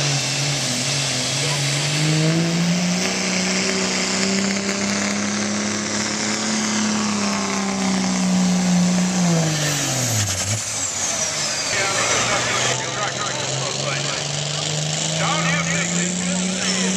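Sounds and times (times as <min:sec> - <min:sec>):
diesel engine at high revs: 0:00.0 - 0:16.9.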